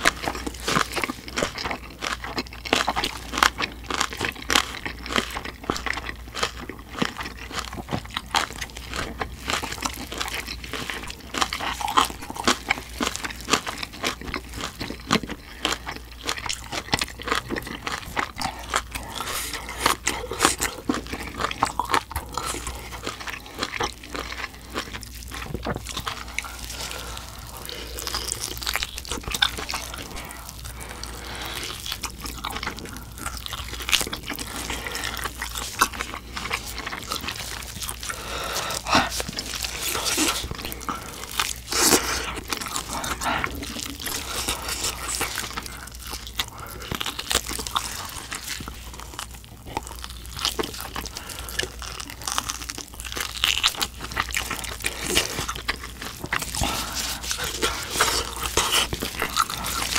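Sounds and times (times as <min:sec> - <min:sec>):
chewing crunches and clicks: 0:00.0 - 0:59.9.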